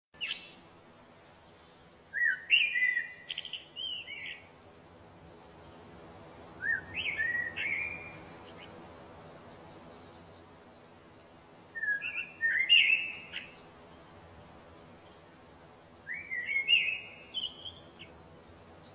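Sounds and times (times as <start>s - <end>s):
songbird chirping: 0.2s - 18.9s.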